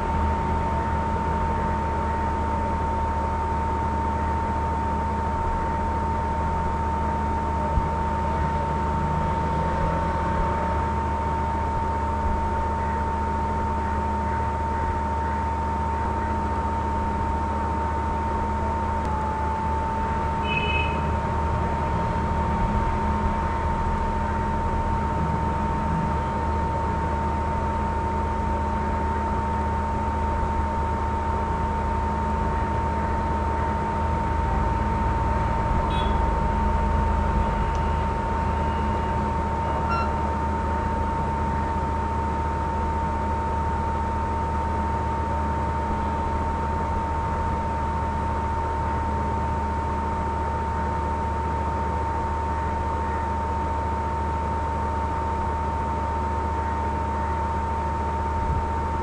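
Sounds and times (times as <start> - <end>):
high-pitched whine: 0.0 - 49.1.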